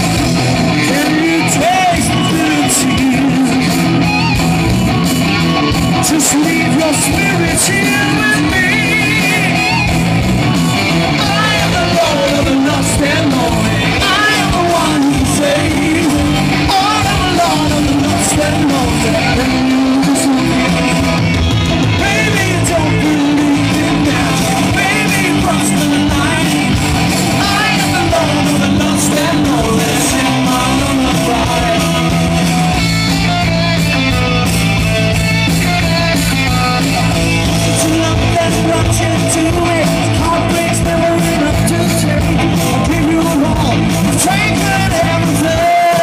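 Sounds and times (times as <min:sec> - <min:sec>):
electric guitars: 0:00.0 - 0:46.0
person singing: 0:00.6 - 0:04.0, 0:05.8 - 0:09.9, 0:11.0 - 0:33.5, 0:35.7 - 0:46.0.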